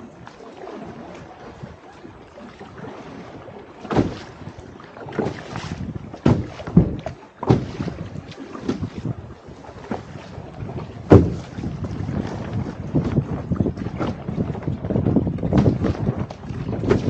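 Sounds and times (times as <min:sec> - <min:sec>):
paddle splashing water: 0:00.0 - 0:17.0
wind on microphone: 0:00.0 - 0:17.0.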